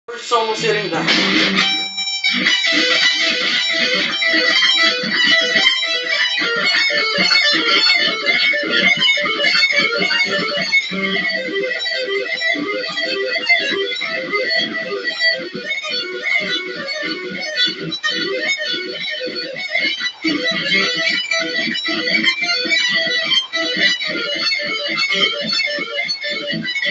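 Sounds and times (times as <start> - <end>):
electric guitar shredding: 0.1 - 26.9.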